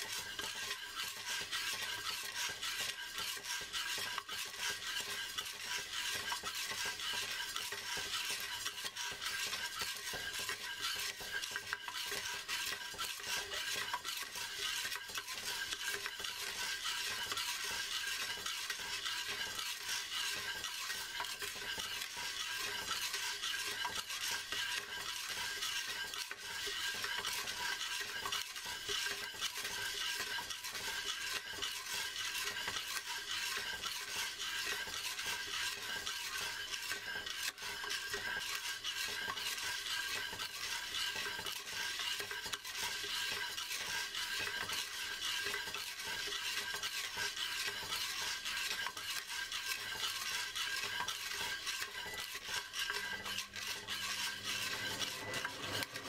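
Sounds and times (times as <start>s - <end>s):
coffee beans rattling in pot: 0.0s - 56.0s.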